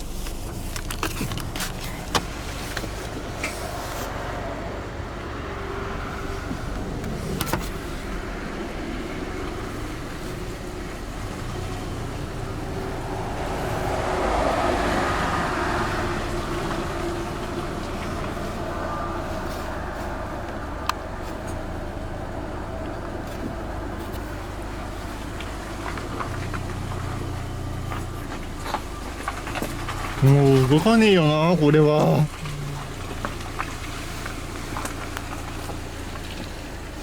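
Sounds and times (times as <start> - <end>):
motor vehicle passing: 0.0 - 37.0.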